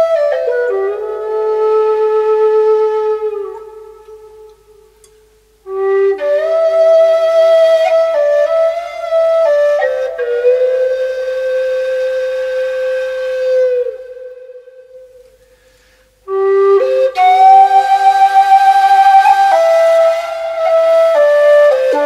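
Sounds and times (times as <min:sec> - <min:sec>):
wind instrument slow melody: 0:00.0 - 0:22.0.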